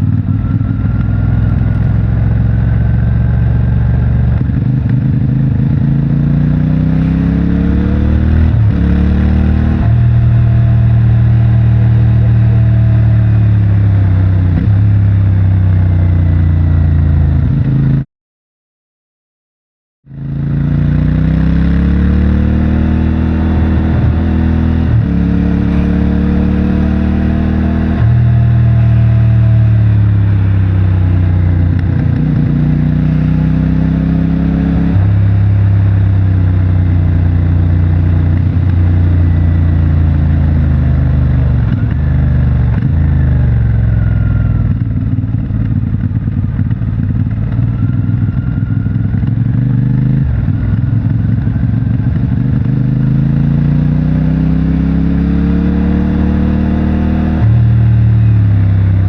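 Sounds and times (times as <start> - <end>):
motorcycle engine revving: 0.0 - 18.0, 20.1 - 59.0.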